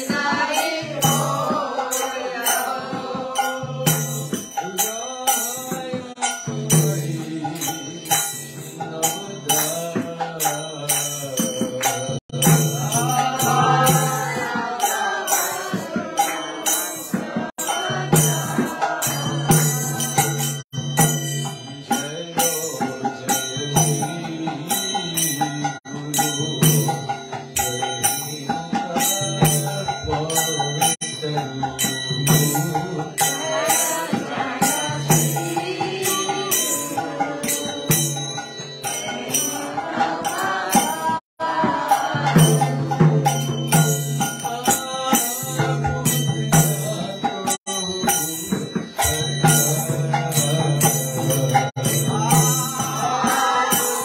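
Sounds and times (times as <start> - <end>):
jingling hand percussion: 0.0 - 54.0.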